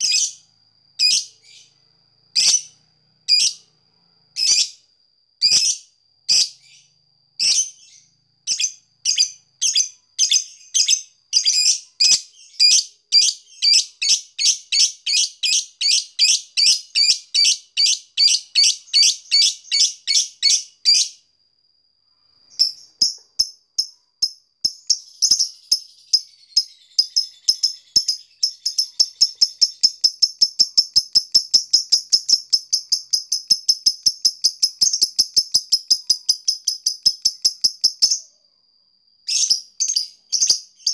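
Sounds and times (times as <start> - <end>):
lovebird chirping: 0.0 - 21.2, 22.4 - 38.5, 39.2 - 40.9.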